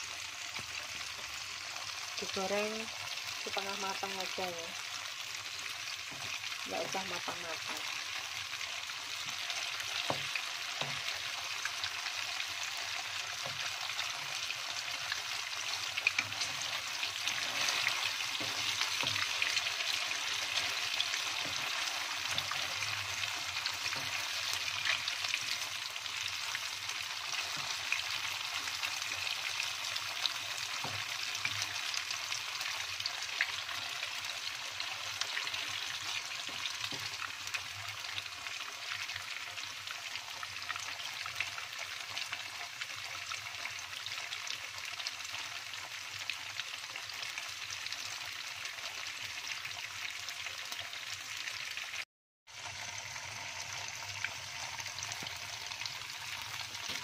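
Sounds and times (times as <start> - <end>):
tofu sizzling in hot oil: 0.0 - 57.0.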